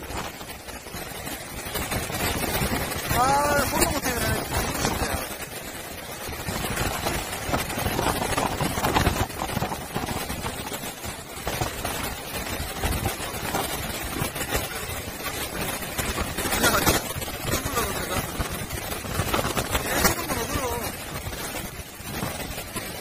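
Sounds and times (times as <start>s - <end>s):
heavy surf: 0.0s - 23.0s
wind gusting on microphone: 0.0s - 23.0s.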